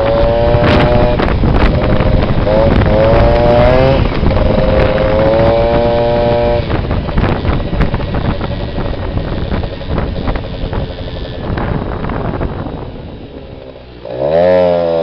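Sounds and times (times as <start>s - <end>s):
two-stroke scooter engine running hard: 0.0s - 15.0s.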